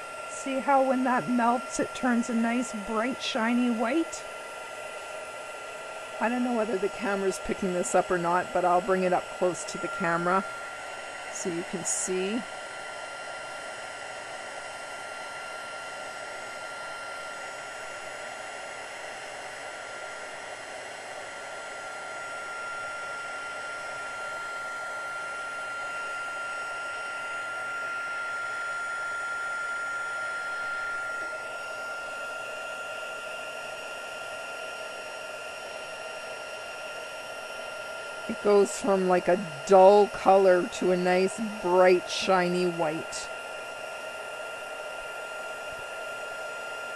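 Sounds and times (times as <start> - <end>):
heat gun blowing with whine: 0.0 - 46.9.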